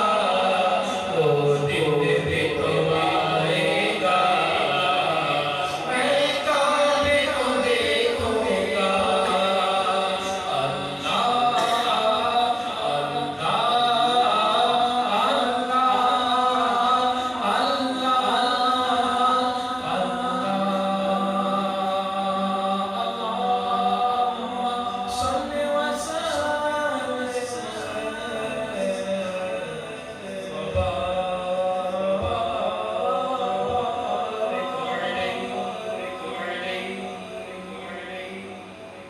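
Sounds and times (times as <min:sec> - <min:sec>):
man chanting devotional song: 0:00.0 - 0:39.0.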